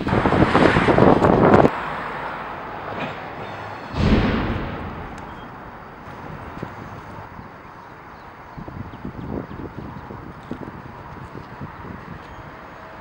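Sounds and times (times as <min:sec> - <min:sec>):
wind buffeting microphone: 0:00.0 - 0:01.8, 0:03.9 - 0:13.0
faint outdoor background: 0:00.0 - 0:13.0.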